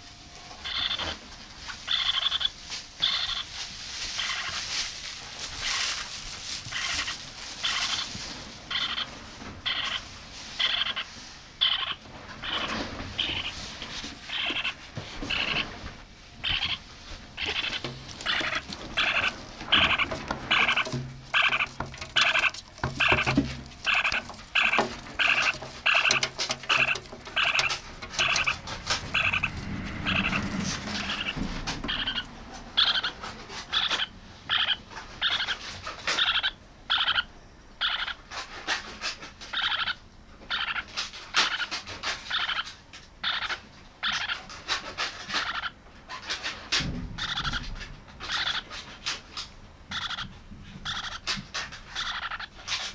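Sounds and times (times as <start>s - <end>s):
parakeet chick calling: 0.6s - 3.5s, 4.2s - 4.6s, 6.7s - 8.1s, 8.7s - 13.6s, 14.3s - 15.7s, 16.4s - 38.3s, 39.5s - 44.5s, 45.3s - 46.2s, 47.2s - 48.8s, 49.9s - 52.9s.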